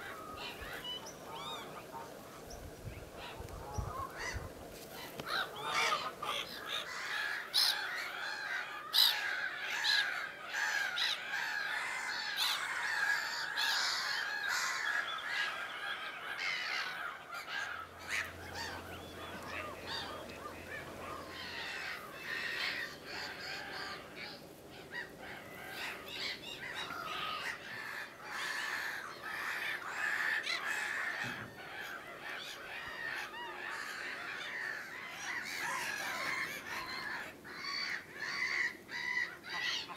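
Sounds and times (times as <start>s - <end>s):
wetland birds calling: 0.0s - 39.9s.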